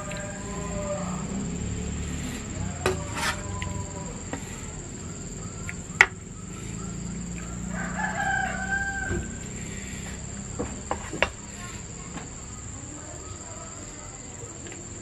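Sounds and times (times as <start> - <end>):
rooster crowing: 0.0 - 14.6.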